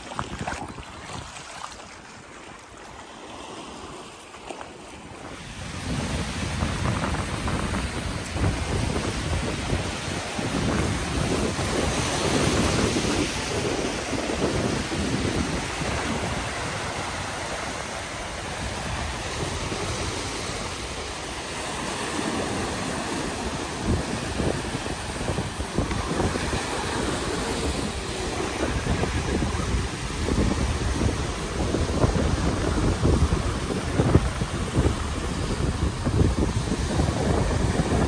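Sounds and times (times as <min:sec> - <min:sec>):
surf breaking on rocky shore: 0:00.0 - 0:38.0
wind gusting on microphone: 0:05.1 - 0:38.0.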